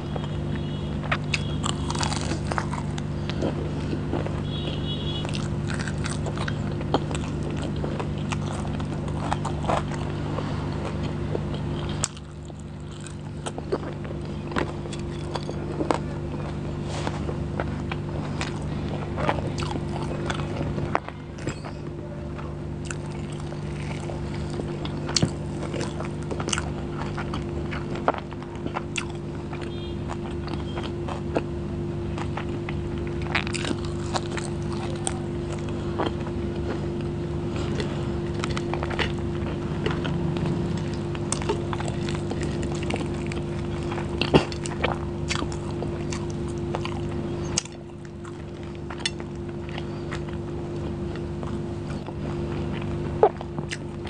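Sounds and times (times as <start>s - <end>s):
steady low hum: 0.0s - 54.0s
sticky squelches of food: 0.0s - 54.0s
wet chewing and lip-smacking: 0.1s - 54.0s.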